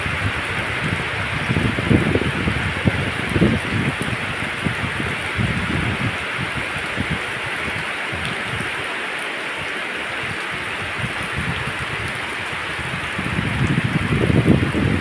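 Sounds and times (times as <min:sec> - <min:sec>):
heavy rain on road and grass: 0:00.0 - 0:15.0.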